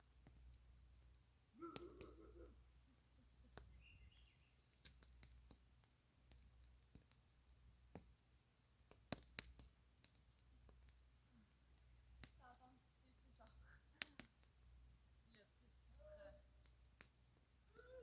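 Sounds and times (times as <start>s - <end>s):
campfire wood crackling: 0.0s - 18.0s
sharp fire pops: 0.0s - 18.0s.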